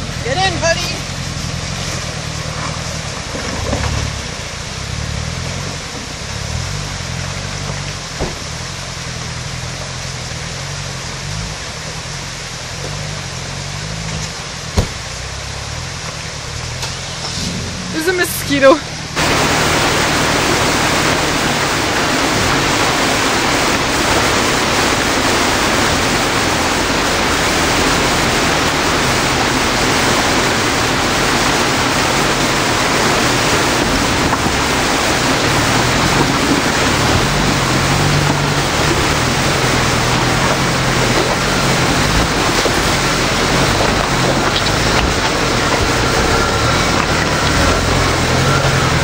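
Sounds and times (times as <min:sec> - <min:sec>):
faint vehicle engine: 0:00.0 - 0:49.0
rocky creek rushing: 0:00.0 - 0:49.0.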